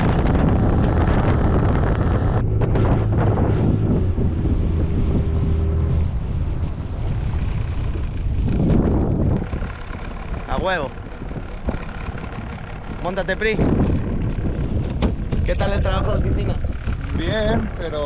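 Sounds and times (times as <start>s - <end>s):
water rushing past hull: 0.0s - 17.8s
outboard motor drone: 0.0s - 18.0s
wind buffeting microphone: 0.0s - 18.0s.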